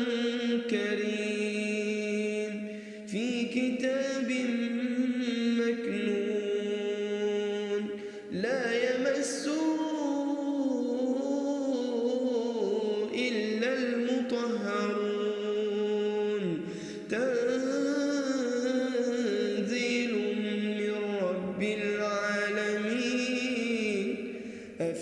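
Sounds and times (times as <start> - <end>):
man chanting melodically: 0.0 - 25.0.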